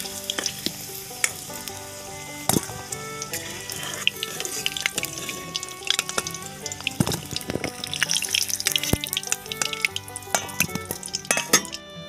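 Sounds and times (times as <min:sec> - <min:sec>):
hot oil sizzling: 0:00.0 - 0:11.9
background music: 0:00.0 - 0:12.0.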